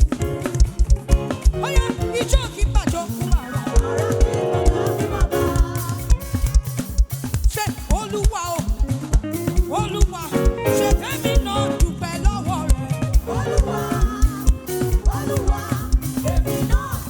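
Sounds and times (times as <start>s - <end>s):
band playing gospel music: 0.0s - 17.0s
drum kit beat: 0.0s - 17.0s
person singing: 0.0s - 17.0s.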